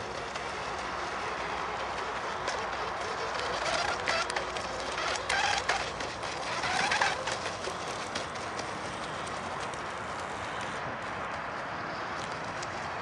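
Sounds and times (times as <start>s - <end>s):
radio-controlled boat motor buzzing: 0.0s - 10.8s.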